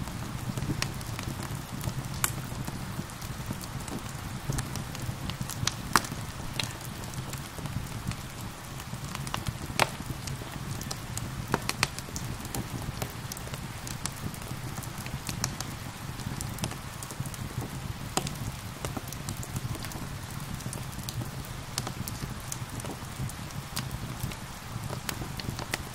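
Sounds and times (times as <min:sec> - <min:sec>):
steady rain: 0:00.0 - 0:25.9
wood fire crackling and popping: 0:00.0 - 0:25.9.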